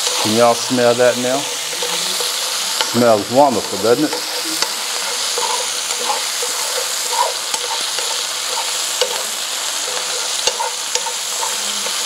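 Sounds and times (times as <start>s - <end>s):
chicken sizzling in oil: 0.0s - 12.0s
utensil scraping a pan: 0.0s - 12.0s.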